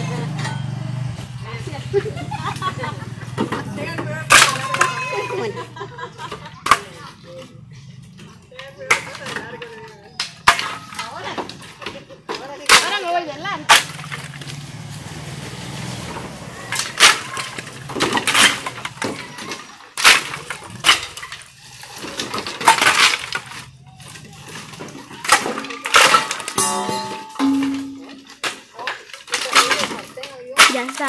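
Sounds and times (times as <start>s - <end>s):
firewood sticks clattering: 2.4s - 5.4s, 7.9s - 31.0s.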